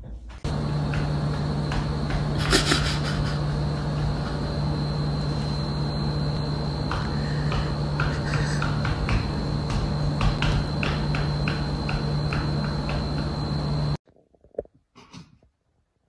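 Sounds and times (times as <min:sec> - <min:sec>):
low mechanical hum: 0:00.0 - 0:14.0
high steady whine: 0:00.4 - 0:14.0.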